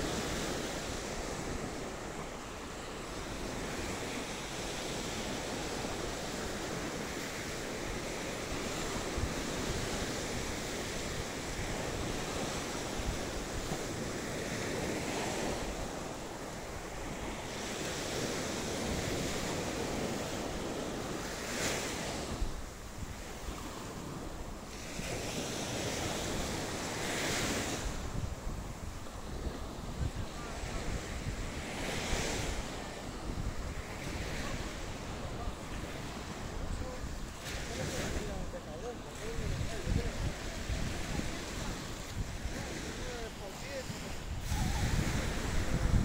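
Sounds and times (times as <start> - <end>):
sea waves breaking on beach: 0.0 - 46.0
wind rumbling on microphone: 0.0 - 46.0.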